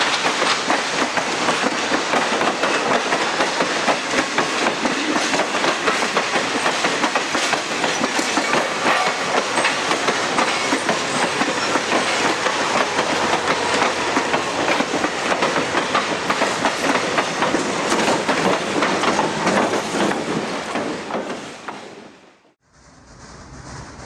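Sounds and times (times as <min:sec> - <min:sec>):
train wheels clicking on rails: 0:00.0 - 0:24.0.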